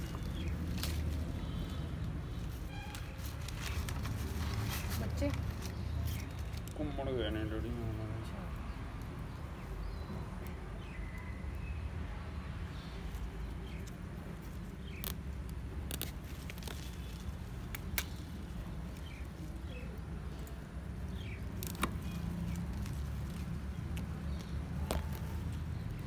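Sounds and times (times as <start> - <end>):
hands handling plant roots: 0.0 - 7.8, 12.5 - 26.0.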